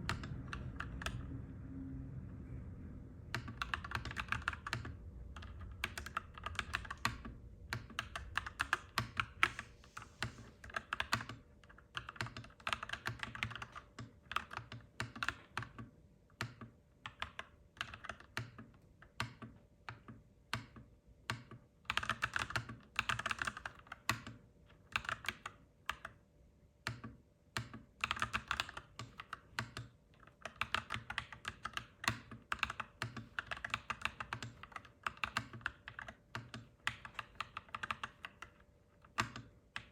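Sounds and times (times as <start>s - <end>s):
faint steady hum: 0.0s - 39.9s
typing on mechanical keyboard: 0.1s - 1.3s, 3.3s - 26.2s, 26.8s - 39.9s.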